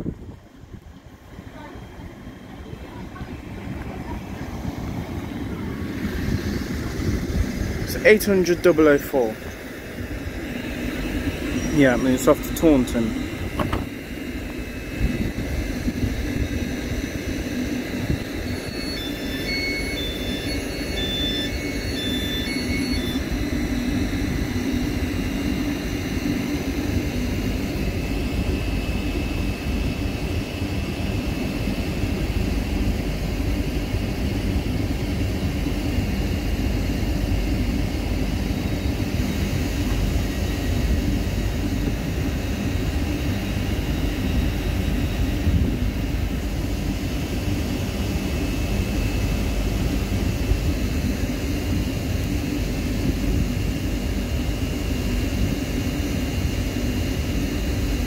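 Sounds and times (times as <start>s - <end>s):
faint high whine: 0.0s - 58.0s
train equipment humming: 0.0s - 58.0s.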